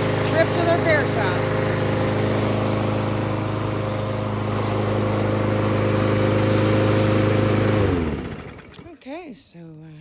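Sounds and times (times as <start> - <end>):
lawn mower engine running: 0.0 - 9.6.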